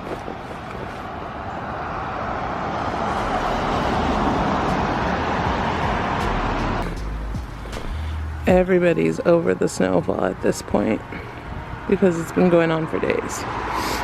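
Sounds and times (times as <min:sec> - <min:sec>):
car tyres on snowy road: 0:00.0 - 0:14.0.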